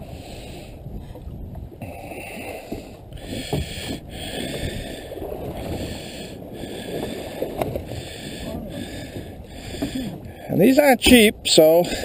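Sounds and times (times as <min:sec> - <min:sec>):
wind on microphone: 0:00.0 - 0:10.4
water lapping against boat hull: 0:00.0 - 0:12.0.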